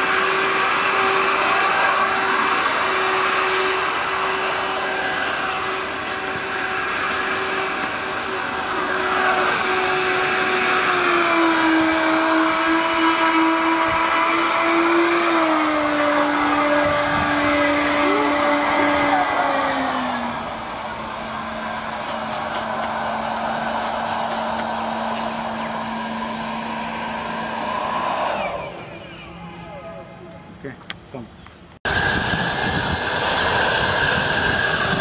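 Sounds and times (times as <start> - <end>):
small electric motor whining: 0.0 - 29.6, 31.9 - 35.0.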